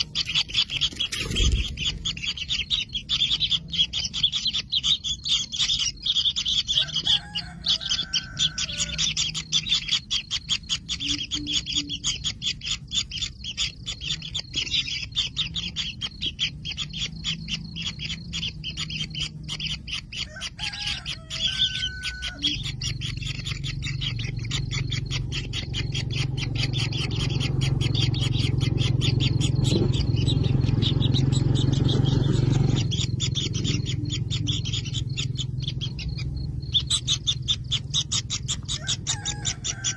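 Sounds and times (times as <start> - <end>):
nestlings ticking calls: 0.0 - 39.9.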